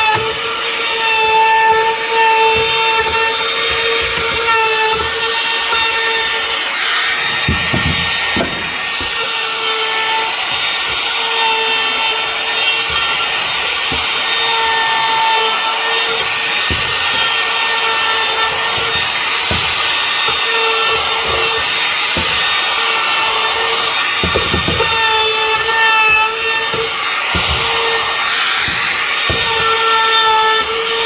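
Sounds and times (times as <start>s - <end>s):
power tool cutting wood: 0.0s - 31.0s.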